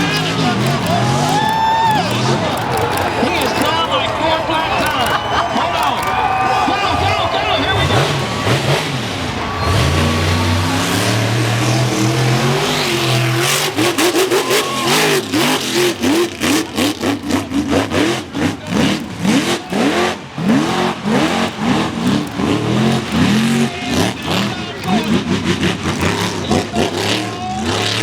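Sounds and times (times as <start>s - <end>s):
sharp engine cracks: 0.0s - 8.9s, 11.7s - 28.0s
truck engine revving: 0.0s - 28.0s.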